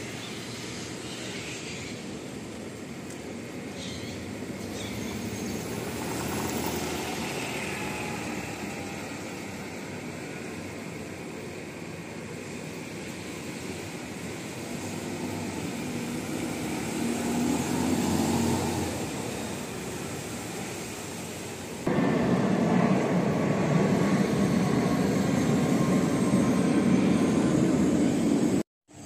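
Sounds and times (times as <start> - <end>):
bus engine hum: 0.0 - 28.6
bus engine rumble close by: 0.0 - 28.6.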